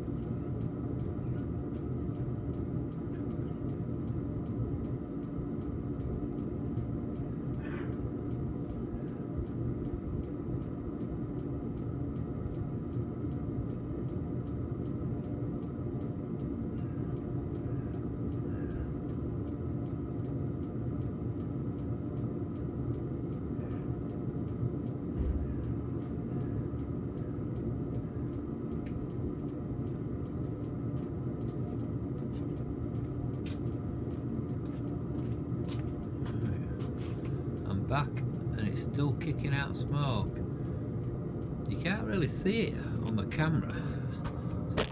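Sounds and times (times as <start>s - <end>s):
heater blower fan humming: 0.0s - 44.9s.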